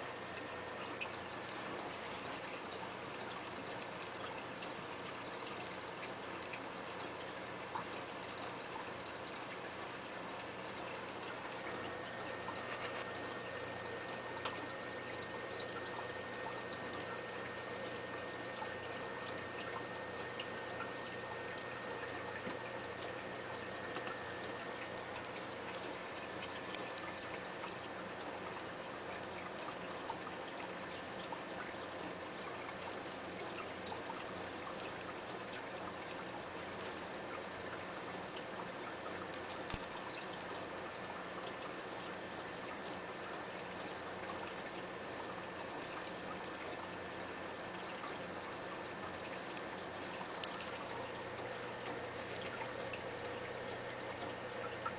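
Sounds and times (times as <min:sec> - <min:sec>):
aquarium water trickling and bubbling: 0:00.0 - 0:54.9
faint steady hum: 0:00.0 - 0:54.9.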